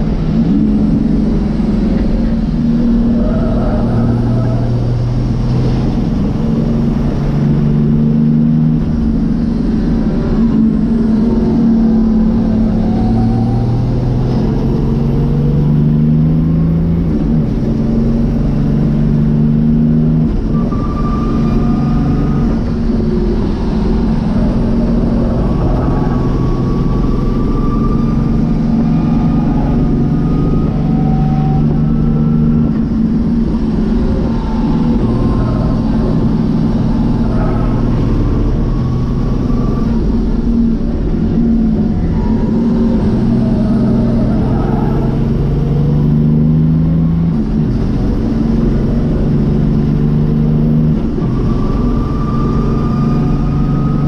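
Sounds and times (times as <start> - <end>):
diesel engine running hard: 0.0 - 54.0.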